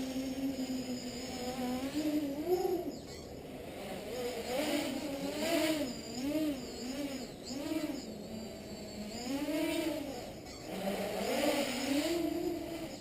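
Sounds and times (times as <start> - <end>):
quadcopter buzzing whine: 0.0 - 13.0.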